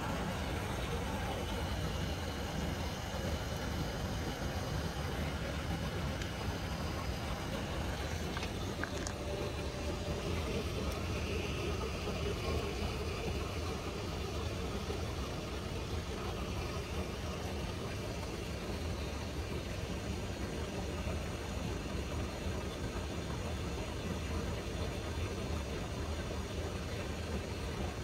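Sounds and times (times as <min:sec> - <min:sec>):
low hum: 0:00.0 - 0:23.9.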